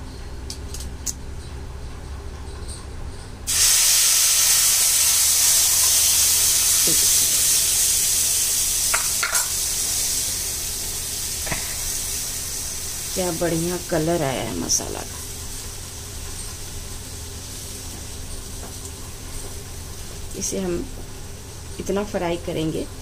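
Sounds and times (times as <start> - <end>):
paste sizzling in hot oil: 3.5 - 22.6.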